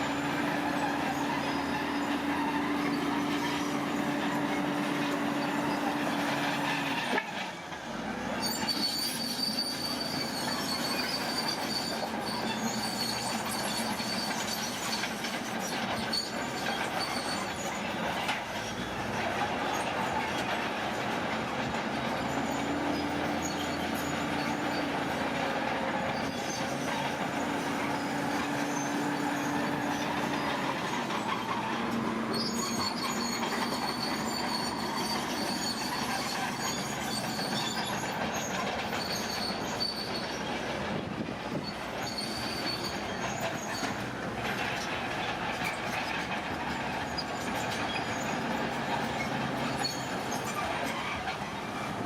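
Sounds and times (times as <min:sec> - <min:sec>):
high metallic squeals: 0:00.0 - 0:07.4, 0:08.4 - 0:40.8, 0:41.6 - 0:52.0
heavy machinery engine rumble: 0:00.0 - 0:52.0.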